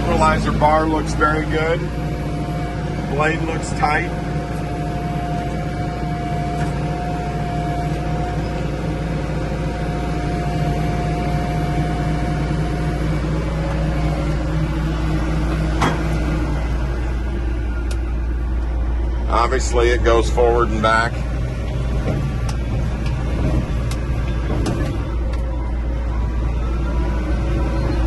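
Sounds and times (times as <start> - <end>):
diesel engine running: 0.0 - 28.0
high steady whine: 0.0 - 28.0.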